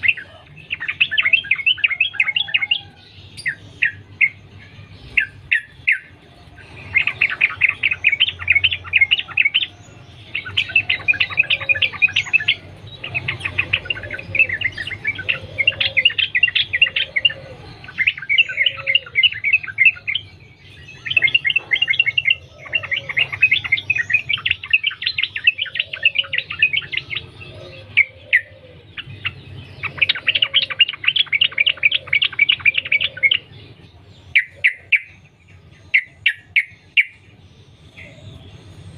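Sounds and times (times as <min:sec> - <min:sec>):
bird singing rapid chattering notes: 0:00.0 - 0:38.9.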